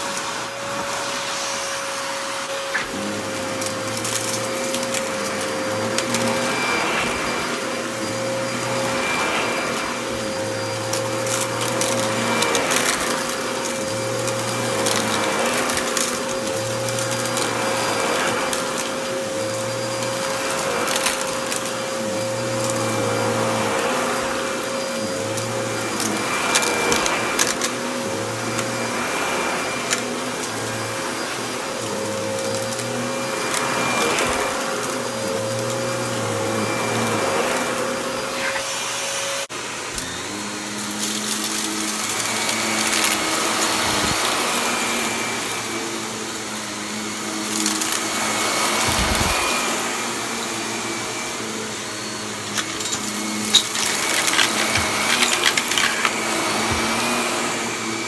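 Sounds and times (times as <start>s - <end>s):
vacuum cleaner running on rug: 0.0s - 58.0s.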